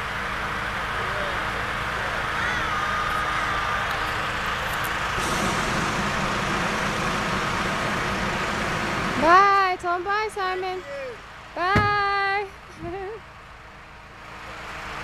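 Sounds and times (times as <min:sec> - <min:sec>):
propane burner roaring: 0:00.0 - 0:15.0.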